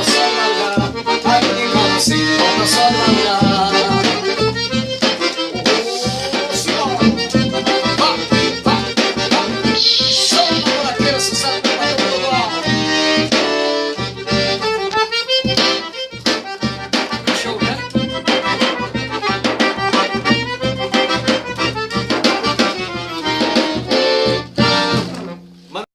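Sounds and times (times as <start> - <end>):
percussion beat: 0.0 - 25.4
accordion playing: 0.0 - 25.8.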